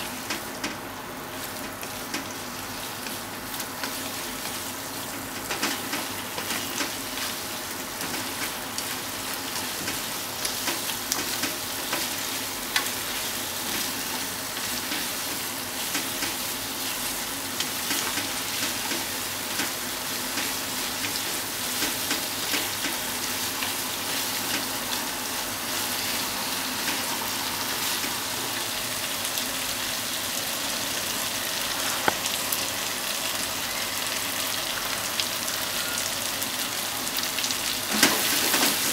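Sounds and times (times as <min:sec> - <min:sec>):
food sizzling in frying pan: 0:00.0 - 0:38.9.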